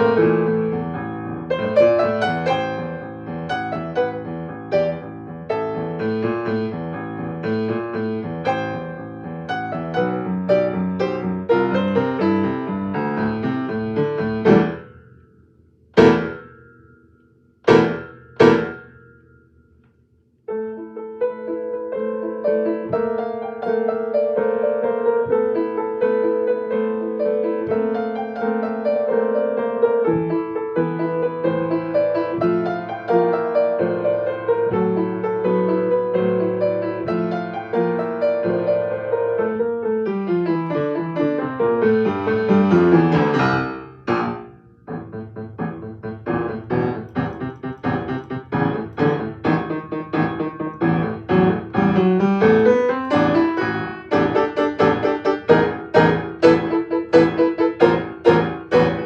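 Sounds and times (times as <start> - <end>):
solo piano piece: 0.0 - 19.6, 20.4 - 59.0.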